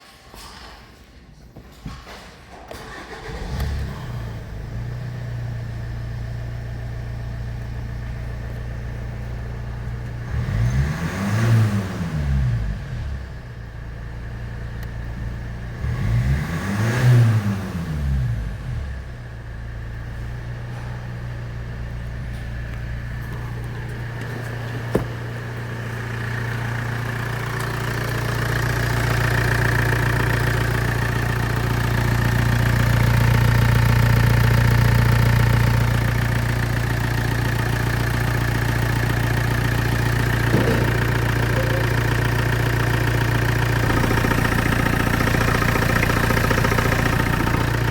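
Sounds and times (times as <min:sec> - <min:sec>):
diesel engine revving and idling: 0:02.8 - 0:47.9.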